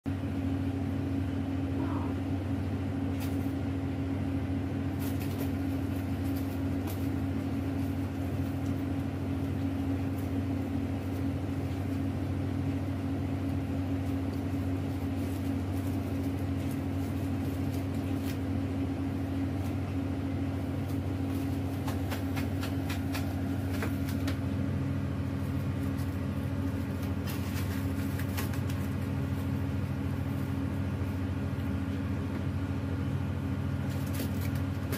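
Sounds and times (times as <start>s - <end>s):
low mechanical hum: 0.1s - 34.9s.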